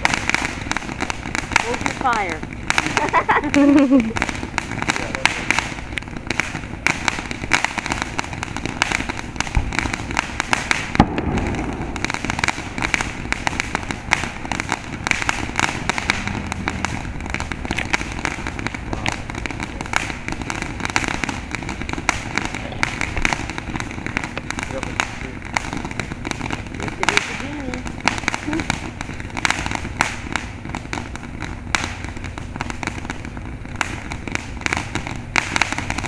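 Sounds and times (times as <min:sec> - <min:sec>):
firework hissing and crackling: 0:00.0 - 0:36.0
loud firework crack: 0:00.0 - 0:36.0.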